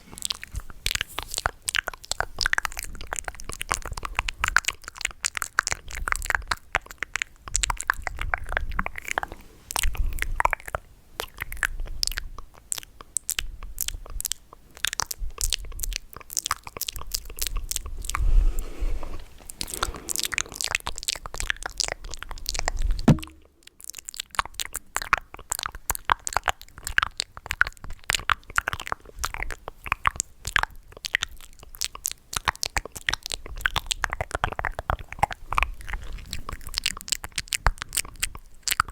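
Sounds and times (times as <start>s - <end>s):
tongue and lip clicks: 0.1s - 18.3s, 19.0s - 38.9s.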